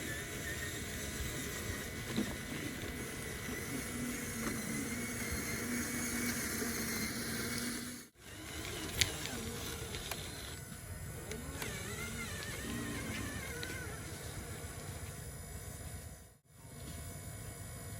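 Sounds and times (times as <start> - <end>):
heavy machinery engines: 0.0 - 17.0.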